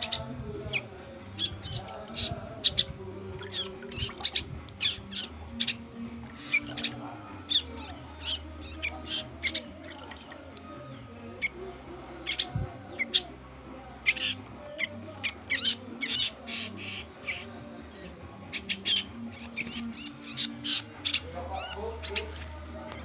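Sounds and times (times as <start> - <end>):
young birds chirping: 0.0 - 11.6, 12.2 - 13.4, 14.0 - 23.0.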